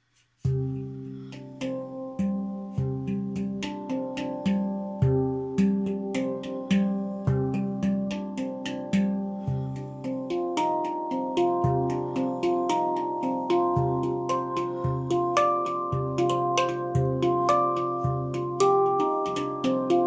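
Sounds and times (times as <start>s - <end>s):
held lower notes: 0.5s - 20.0s.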